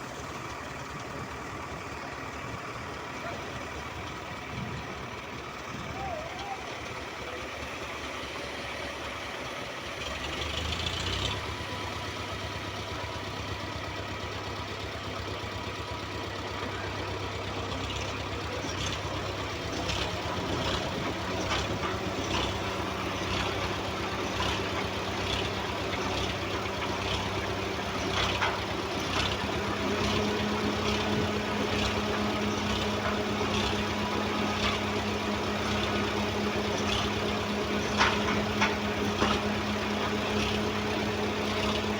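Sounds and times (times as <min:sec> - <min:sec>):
heavy machine engine running: 0:00.0 - 0:41.9.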